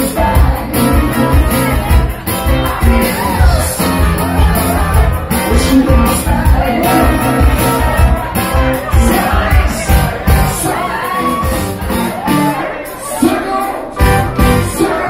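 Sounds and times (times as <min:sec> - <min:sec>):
live band playing dance music: 0:00.0 - 0:15.0.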